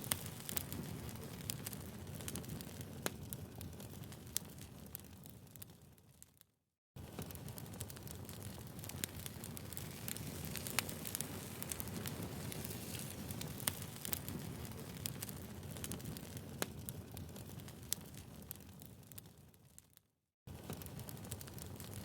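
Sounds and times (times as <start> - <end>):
firewood crackling and popping: 0.0 - 22.0.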